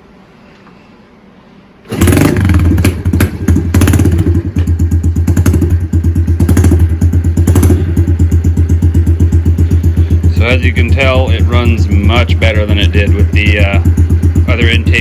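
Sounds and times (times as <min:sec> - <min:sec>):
motorcycle engine starting and idling: 0:01.9 - 0:15.0.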